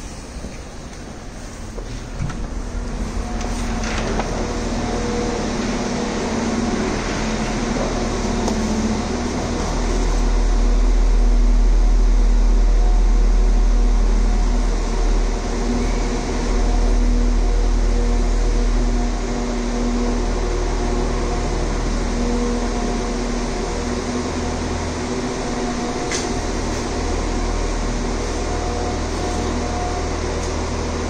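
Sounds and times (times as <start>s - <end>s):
train mechanical hum: 0.0s - 31.0s
deep rumble: 2.0s - 31.0s.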